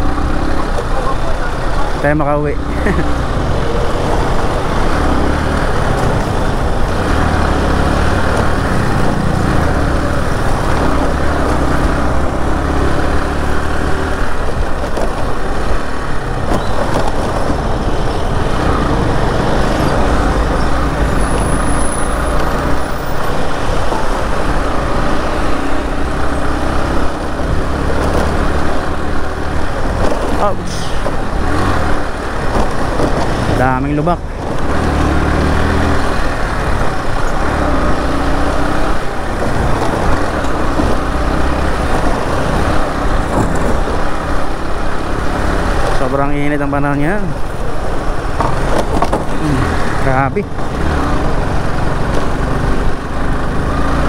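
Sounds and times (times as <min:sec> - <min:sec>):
truck engine: 0:00.0 - 0:54.0.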